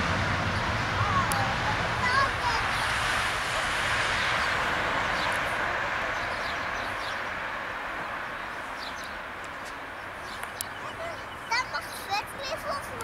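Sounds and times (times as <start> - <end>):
jet aircraft taking off: 0.0 - 13.0.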